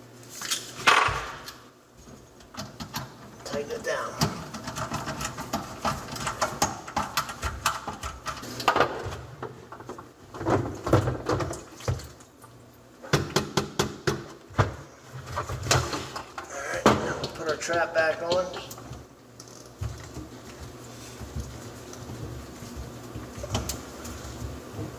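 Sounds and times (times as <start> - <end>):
plumbing parts clicking and knocking: 2.0 - 12.3, 13.0 - 24.9.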